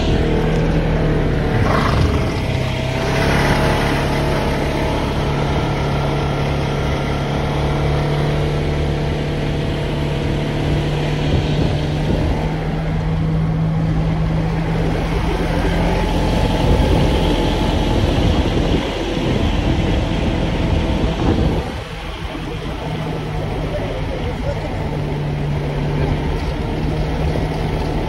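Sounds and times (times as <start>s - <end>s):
broad rushing noise: 0.0s - 28.0s
vehicle engine humming: 0.0s - 28.0s.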